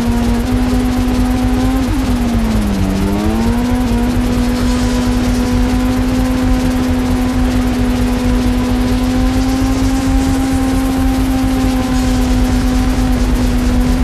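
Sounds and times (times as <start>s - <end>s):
motorcycle engine at high rev: 0.0s - 14.0s
wind rumble on microphone: 0.0s - 14.0s.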